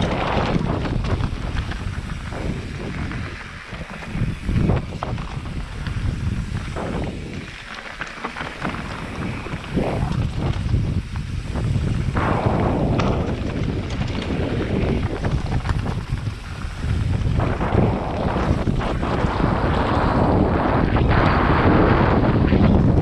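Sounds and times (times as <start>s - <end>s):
bike tyres crunching on stones: 0.0s - 23.0s
wind buffeting microphone: 0.0s - 23.0s.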